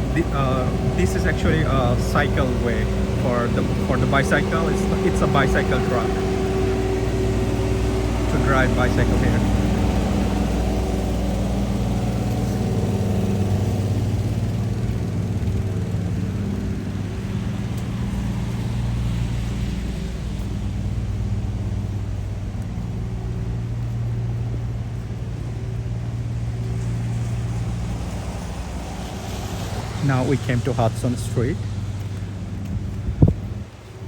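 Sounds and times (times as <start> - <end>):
faint city noise: 0.0 - 34.0
low engine hum: 0.0 - 34.0.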